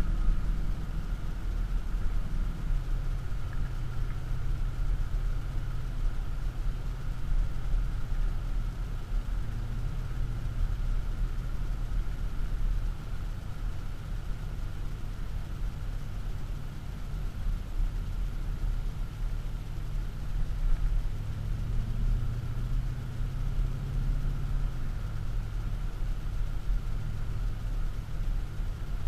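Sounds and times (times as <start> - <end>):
car engine low drone: 0.0 - 29.0.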